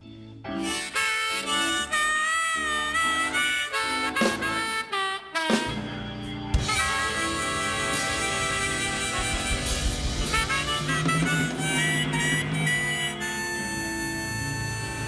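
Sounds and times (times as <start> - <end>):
band backing: 0.0 - 15.0
blues harmonica: 0.0 - 15.0.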